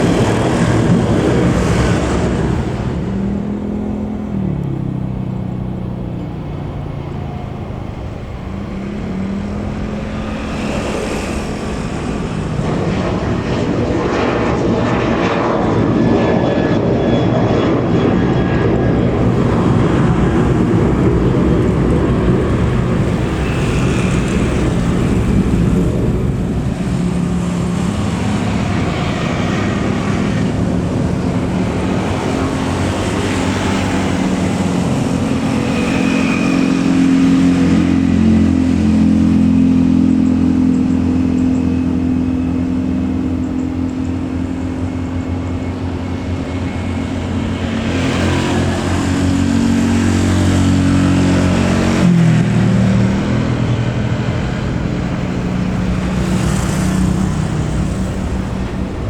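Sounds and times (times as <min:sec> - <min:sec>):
engines humming: 0:00.0 - 0:59.0.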